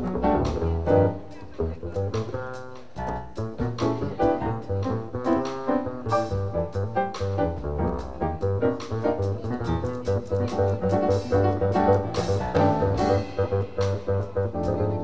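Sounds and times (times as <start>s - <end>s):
drum kit with cymbal strokes: 0.0s - 15.0s
piano: 0.0s - 15.0s
plucked double bass: 0.0s - 15.0s.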